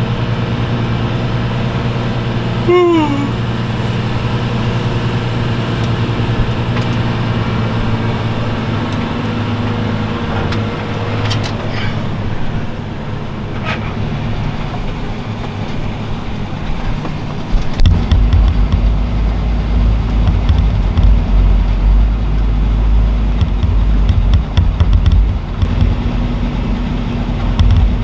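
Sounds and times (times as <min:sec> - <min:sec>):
farm machine engine droning: 0:00.0 - 0:28.0.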